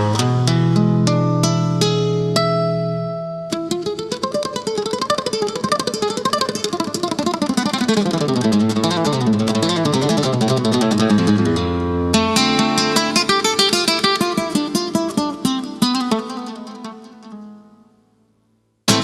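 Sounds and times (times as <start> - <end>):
flamenco guitar plucked notes: 0.0 - 19.0.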